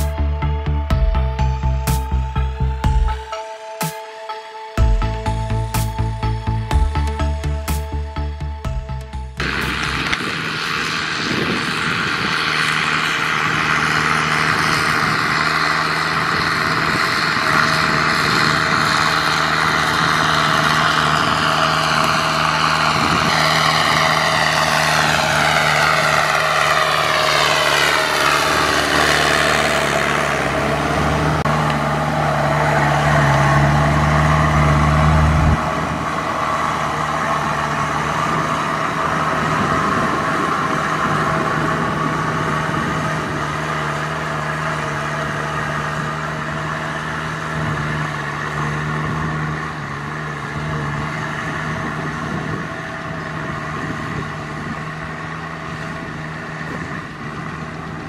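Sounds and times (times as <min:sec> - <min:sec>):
high whine: 0:00.0 - 0:58.0
tractor diesel engine running: 0:00.0 - 0:58.0.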